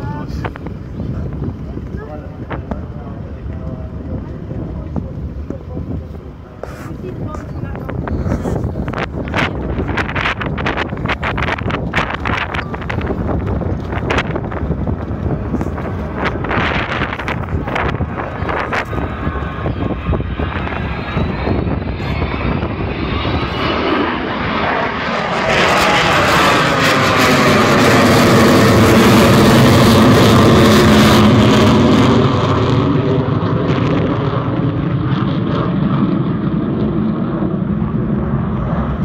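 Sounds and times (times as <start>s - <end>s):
jet bomber flying past: 0.0s - 39.0s.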